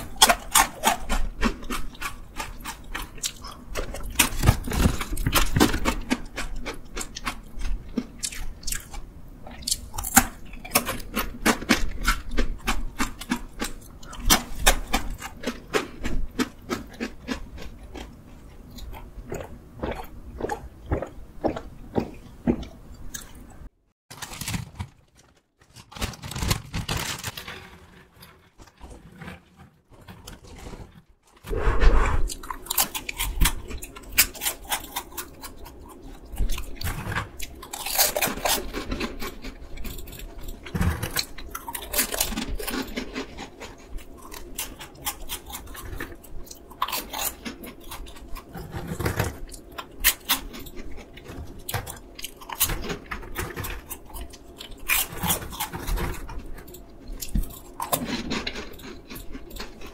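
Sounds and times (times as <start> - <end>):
crisp crunching of snacks: 0.0 - 23.4, 24.1 - 31.4, 32.3 - 59.9.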